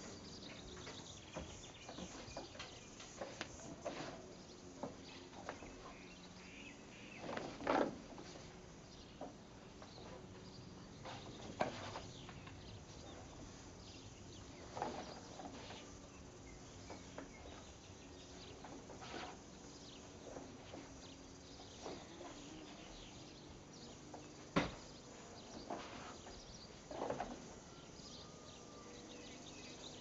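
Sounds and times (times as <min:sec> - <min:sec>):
faint outdoor background: 0:00.0 - 0:30.0.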